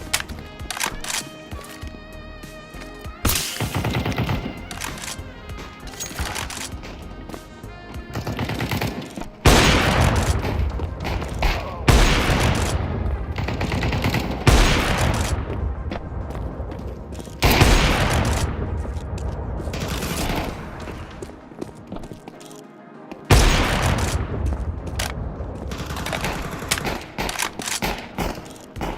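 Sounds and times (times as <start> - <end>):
background music: 0.0 - 28.9.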